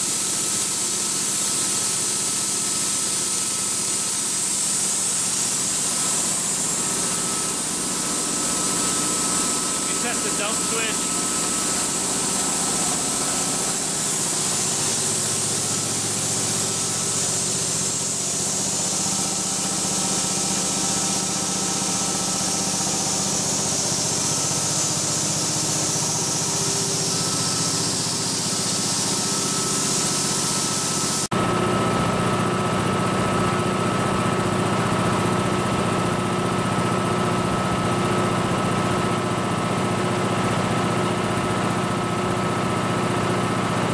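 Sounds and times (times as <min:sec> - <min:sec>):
air compressor running: 0:00.0 - 0:43.9.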